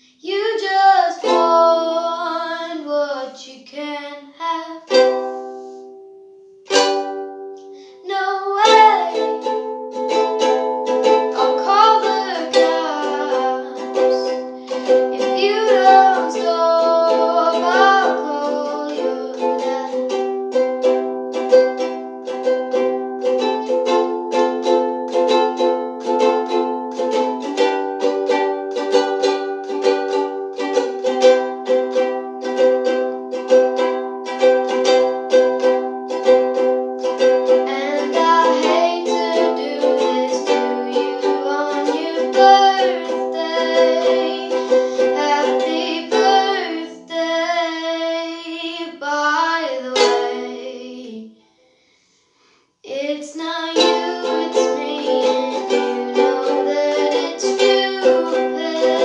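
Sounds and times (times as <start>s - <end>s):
ukulele strumming: 0.0s - 3.3s, 4.4s - 51.2s, 52.9s - 59.0s
girl singing: 0.0s - 5.8s, 6.7s - 51.4s, 52.8s - 59.0s.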